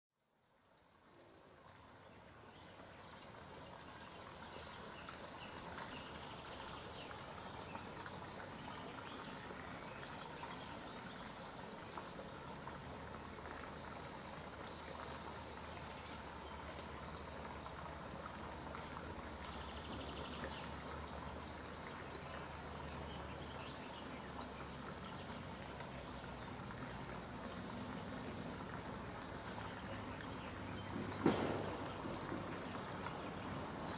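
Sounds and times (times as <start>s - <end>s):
songbirds chirping: 0.2s - 33.9s.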